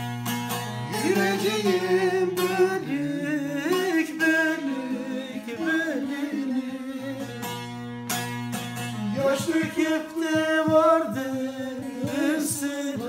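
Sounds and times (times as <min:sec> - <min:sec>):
long-necked lute playing: 0:00.0 - 0:13.0
person singing folk melody: 0:00.0 - 0:13.0.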